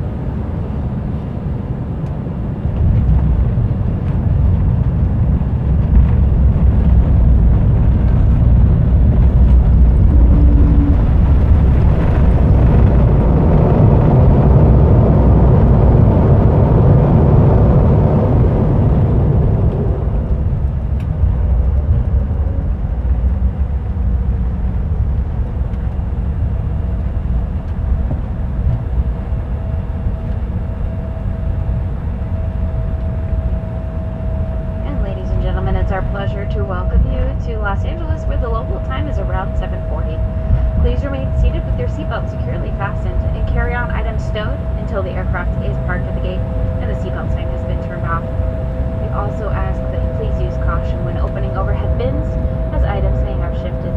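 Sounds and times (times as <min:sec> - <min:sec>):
faint steady whine: 0:00.0 - 0:53.9
jet engine rumbling roar: 0:00.0 - 0:53.9
steady cabin hum: 0:00.0 - 0:53.9.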